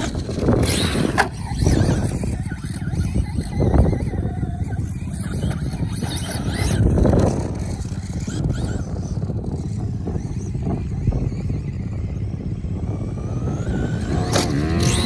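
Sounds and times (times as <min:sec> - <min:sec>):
toy truck driving on sand: 0:00.0 - 0:15.0.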